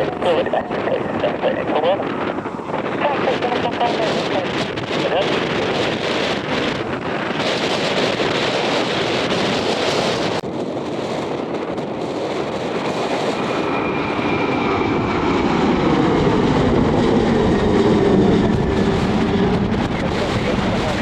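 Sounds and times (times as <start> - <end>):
aircraft engine rumble: 0.0 - 21.0
aircraft engine whine: 0.0 - 21.0
wind buffeting microphone: 0.0 - 21.0.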